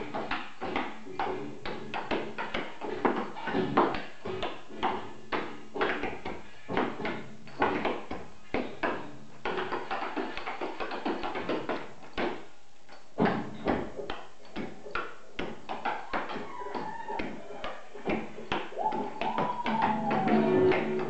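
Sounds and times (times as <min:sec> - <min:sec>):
tap shoes clicking on wooden floor: 0:00.0 - 0:12.4, 0:13.2 - 0:21.0
faint music: 0:00.0 - 0:21.0.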